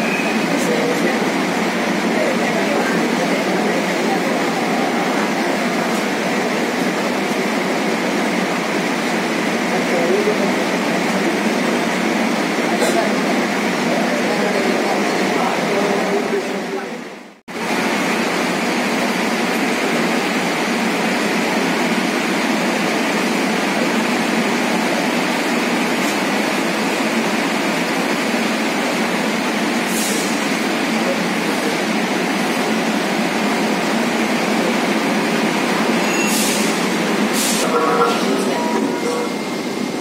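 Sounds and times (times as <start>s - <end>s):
passengers murmuring: 0.0s - 17.4s, 18.9s - 40.0s
train car interior noise: 0.0s - 40.0s.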